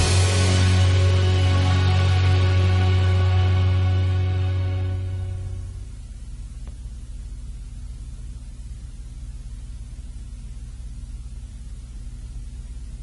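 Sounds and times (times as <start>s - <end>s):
low hum with faint hiss: 0.0s - 13.0s.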